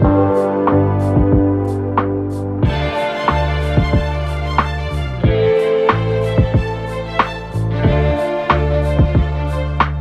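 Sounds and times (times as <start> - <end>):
soft background music with beat: 0.0 - 10.0.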